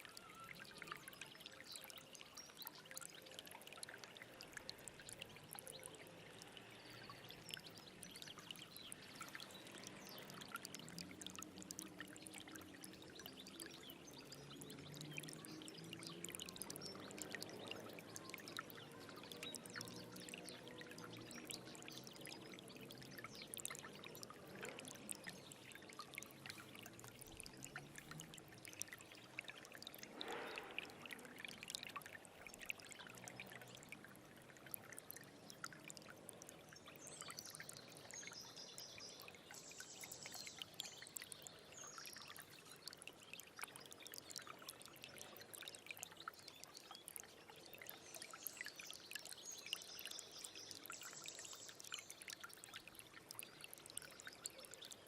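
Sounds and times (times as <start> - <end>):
small stream trickling: 0.0 - 55.0.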